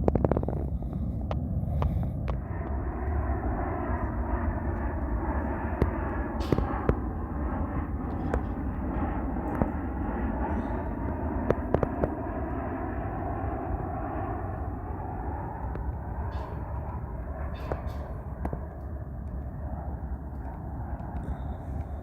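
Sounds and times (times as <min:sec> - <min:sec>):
jet airliner rumble: 0:00.0 - 0:22.0.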